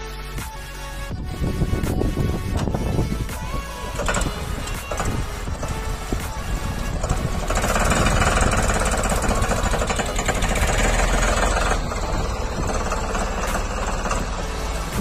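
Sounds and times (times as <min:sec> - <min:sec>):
tractor diesel engine clattering: 0:01.6 - 0:15.0.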